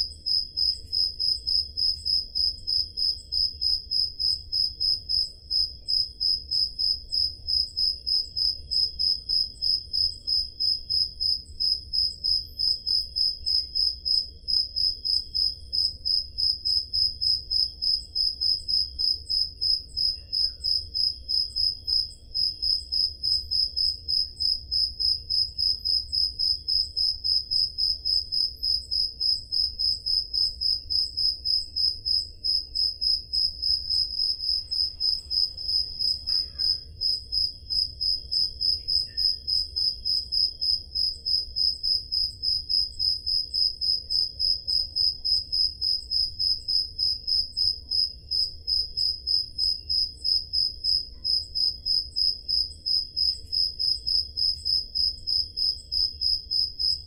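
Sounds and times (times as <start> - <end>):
faint crickets chirping: 0.0 - 57.0
loud cricket chirping: 0.0 - 57.0.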